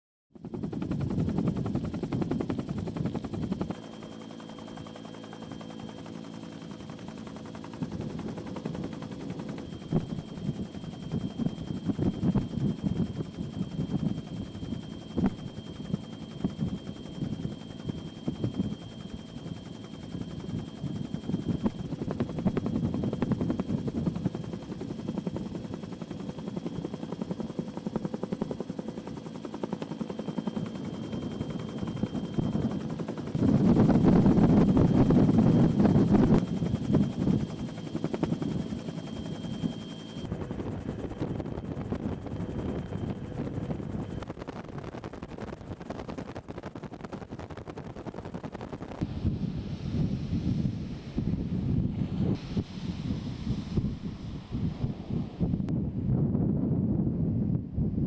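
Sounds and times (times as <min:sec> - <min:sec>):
helicopter turbine whine: 0:00.3 - 0:58.0
helicopter rotor chop: 0:00.4 - 0:50.1.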